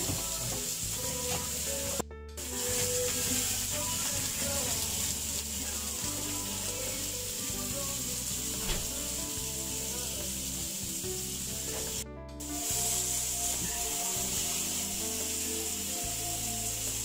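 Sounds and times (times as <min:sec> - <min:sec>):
background music: 0:00.0 - 0:17.0
meat sizzling in grill pan: 0:00.0 - 0:17.0.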